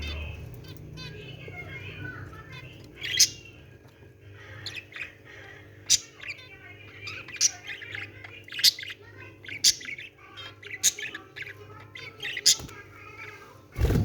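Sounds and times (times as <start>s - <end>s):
small birds chirping and chattering: 0.0s - 14.0s.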